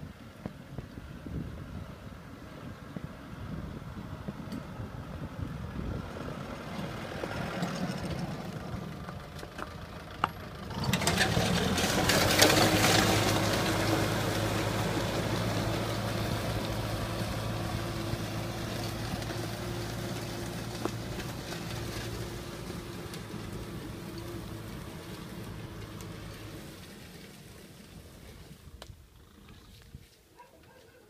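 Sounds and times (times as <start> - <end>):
tractor diesel engine running: 3.3 - 28.7.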